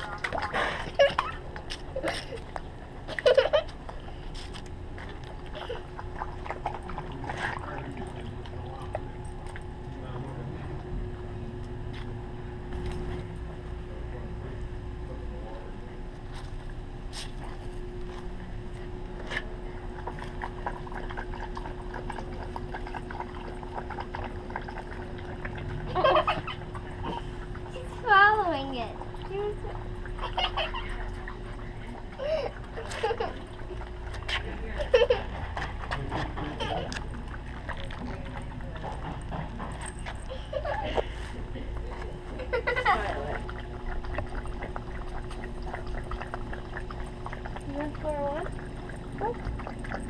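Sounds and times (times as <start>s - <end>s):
dogs lapping water from metal bowl: 0.0s - 12.1s, 15.6s - 50.0s.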